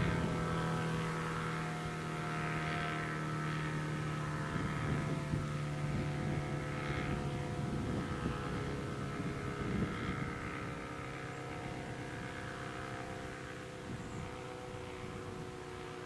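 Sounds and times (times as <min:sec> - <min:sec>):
warning siren steady tone: 0:00.0 - 0:16.0.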